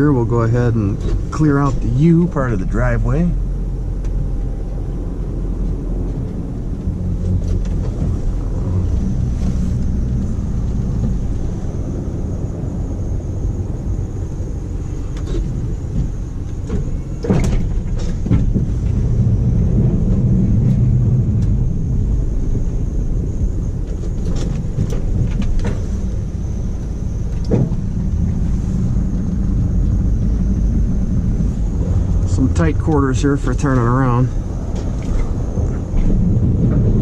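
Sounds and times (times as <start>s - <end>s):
pickup truck engine rumbling: 0.0s - 37.0s.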